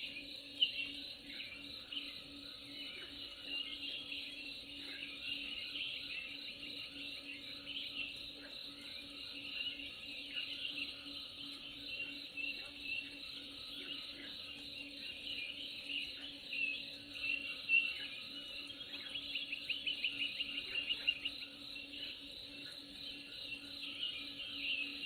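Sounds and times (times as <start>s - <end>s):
bird trill: 0.0s - 25.0s
birds chirping: 0.0s - 25.0s.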